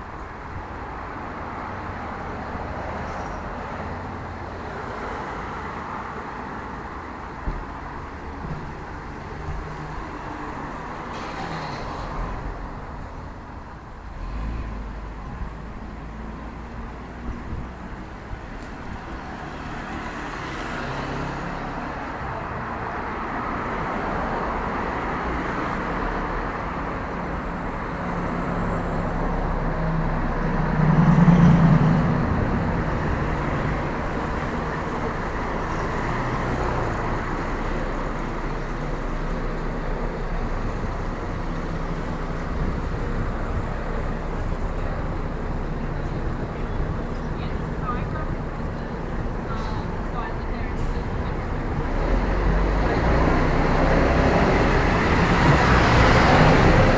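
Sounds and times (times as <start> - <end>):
cars driving past: 0.0 - 56.9.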